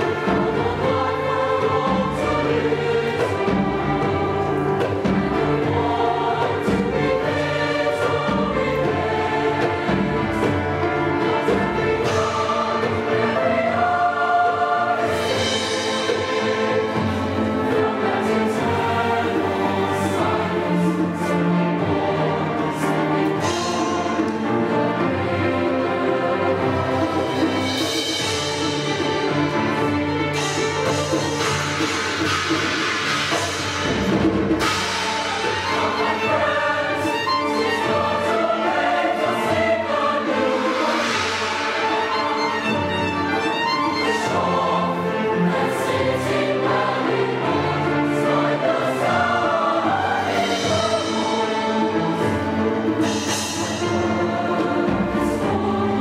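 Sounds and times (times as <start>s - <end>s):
choir singing in harmony: 0.0s - 56.0s
string orchestra: 0.0s - 56.0s.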